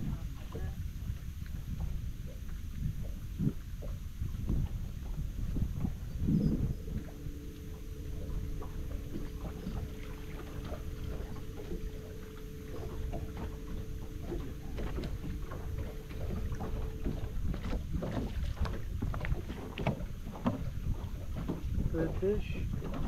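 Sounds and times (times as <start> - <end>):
faint steady hum: 0.0 - 23.0
waves splashing against boat hull: 0.0 - 23.0
wind on microphone: 0.0 - 23.0.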